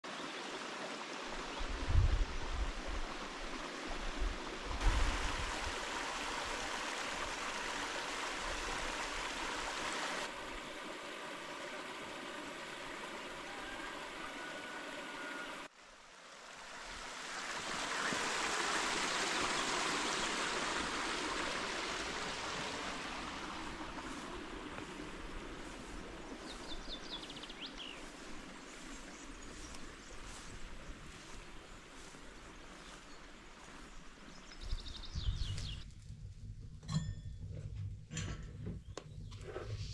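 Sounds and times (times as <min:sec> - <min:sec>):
stream water rushing: 0:00.0 - 0:34.6.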